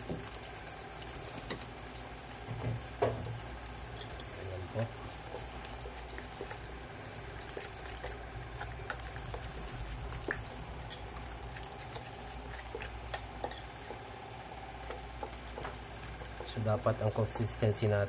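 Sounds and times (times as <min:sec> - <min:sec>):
spoon stirring batter in bowl: 0:00.0 - 0:18.0.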